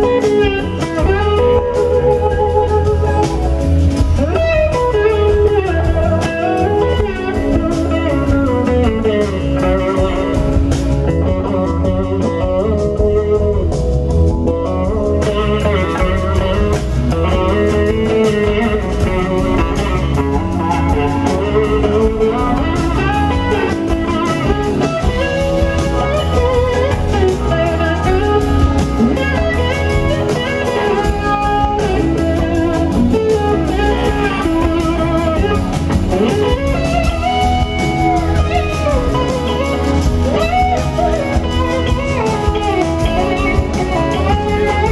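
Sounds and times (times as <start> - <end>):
blues-rock band playing: 0.0 - 44.9
electric slide guitar melody: 0.0 - 44.9.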